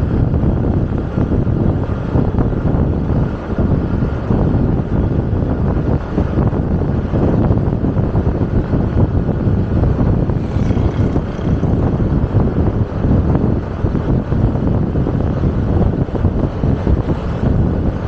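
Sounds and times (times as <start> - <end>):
moving vehicle rumble: 0.0 - 18.0
wind buffeting microphone: 0.0 - 18.0.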